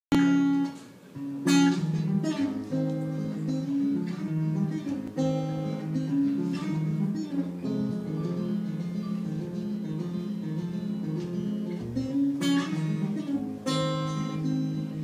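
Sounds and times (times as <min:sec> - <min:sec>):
acoustic guitar strummed and picked: 0:00.1 - 0:15.0.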